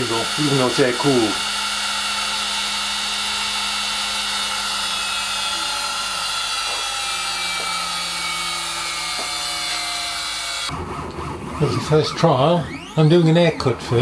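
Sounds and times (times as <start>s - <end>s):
router spindle motor whine: 0.0s - 14.0s.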